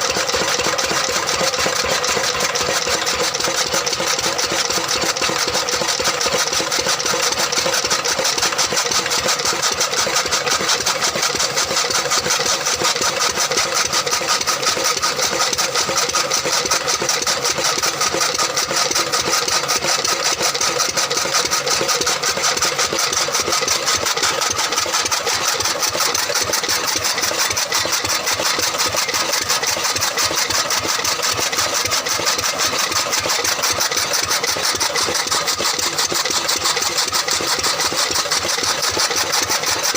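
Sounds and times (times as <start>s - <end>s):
engine running with rapid beat: 0.0s - 39.9s.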